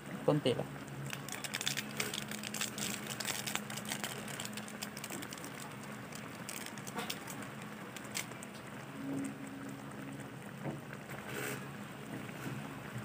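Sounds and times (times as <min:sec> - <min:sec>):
low steady hum: 0:00.0 - 0:13.0
sauce simmering with pops: 0:00.8 - 0:13.0.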